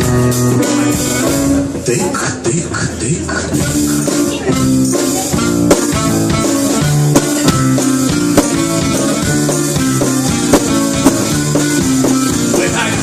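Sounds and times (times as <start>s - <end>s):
drum kit: 0.0s - 13.0s
held guitar and bass notes: 0.0s - 13.0s.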